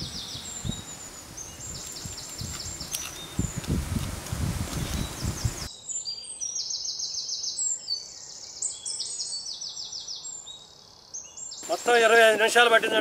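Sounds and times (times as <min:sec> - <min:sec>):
birds chirping in trills: 0:00.0 - 0:03.9, 0:04.8 - 0:13.0.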